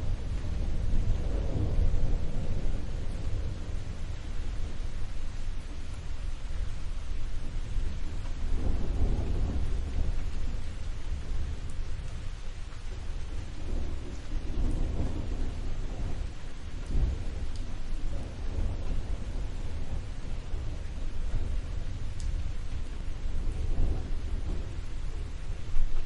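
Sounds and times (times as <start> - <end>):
rain hiss: 0.0 - 26.0
thunder rumbling: 0.0 - 26.0.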